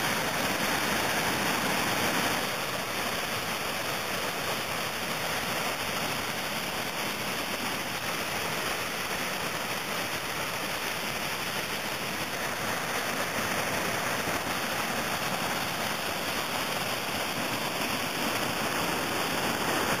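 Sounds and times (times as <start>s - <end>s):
whitewater rushing over a ledge: 0.0s - 20.0s.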